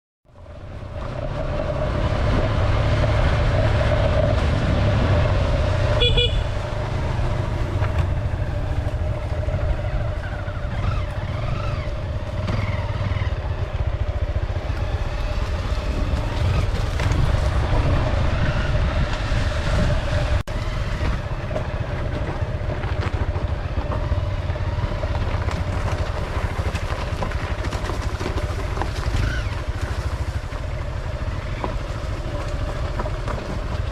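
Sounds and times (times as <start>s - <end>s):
wind on microphone rumble: 0.4s - 33.9s
motorbike engine running: 0.6s - 33.9s.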